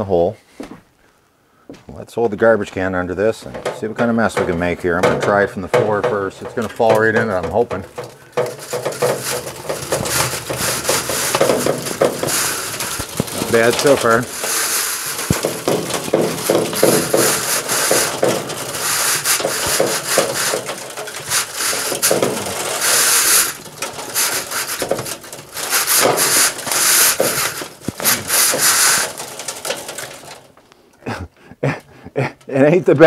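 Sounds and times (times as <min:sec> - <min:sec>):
brush scraping inside metal pipe: 0:03.3 - 0:30.5.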